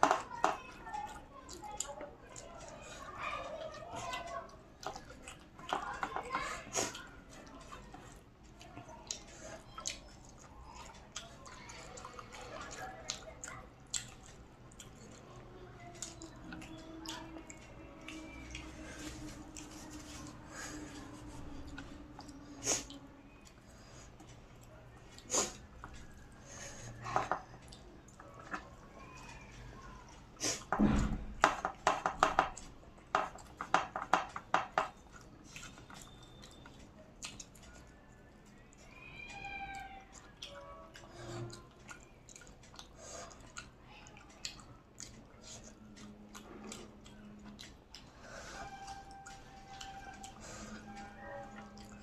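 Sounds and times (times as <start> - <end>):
person chewing food: 0.0 - 52.0
mouth smacks and slurps eating: 4.0 - 30.7, 34.4 - 52.0.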